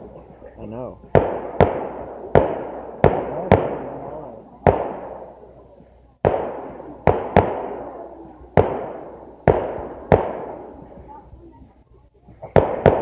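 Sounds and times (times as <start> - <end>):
fireworks bangs with rumbling echo: 1.1 - 5.6, 6.2 - 11.5, 12.4 - 13.0.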